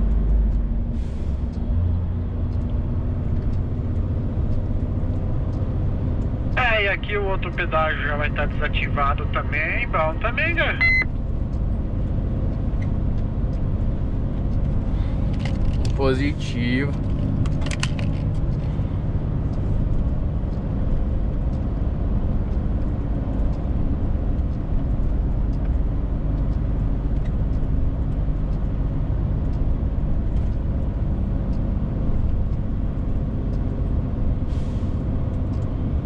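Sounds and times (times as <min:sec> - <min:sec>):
diesel truck engine running: 0:00.0 - 0:36.0
road rumble: 0:00.0 - 0:36.0.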